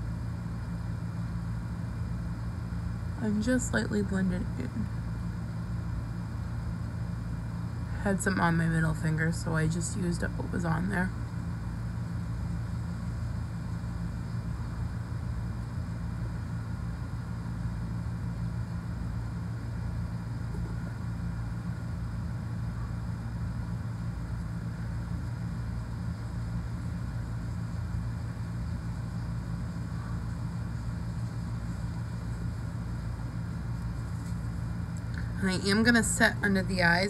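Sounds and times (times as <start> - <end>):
machine humming: 0.0 - 37.0.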